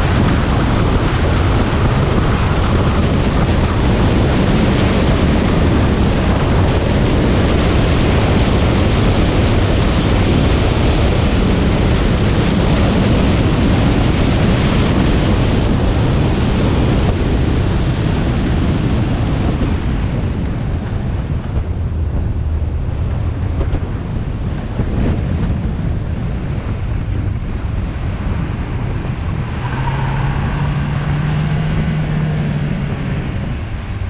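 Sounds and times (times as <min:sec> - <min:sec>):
low engine hum: 0:00.0 - 0:34.0
wind and tyre rush: 0:00.0 - 0:34.0.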